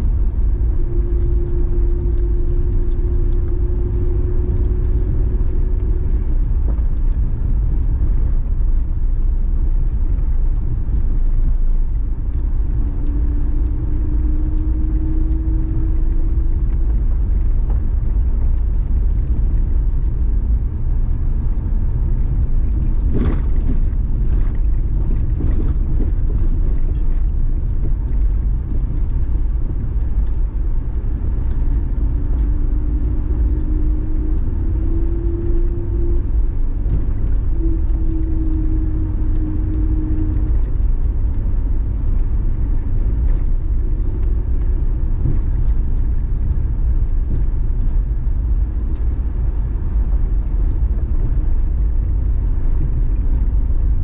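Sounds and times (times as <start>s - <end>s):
faint humming tone: 0.0s - 20.7s, 22.1s - 54.0s
car interior engine and road rumble: 0.0s - 54.0s.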